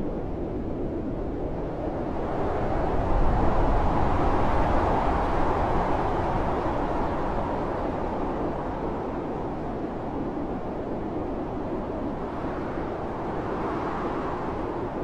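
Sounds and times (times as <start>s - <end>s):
heavy blizzard wind: 0.0s - 15.0s.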